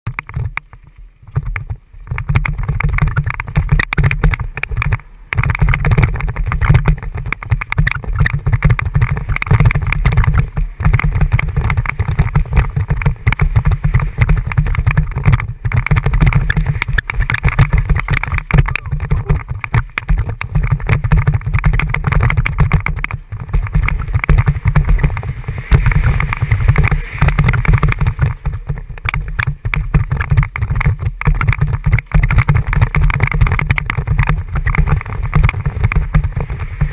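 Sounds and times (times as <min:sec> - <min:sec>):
bike rattling on dirt trail: 0:00.1 - 0:36.9
wind buffeting microphone: 0:00.1 - 0:36.9.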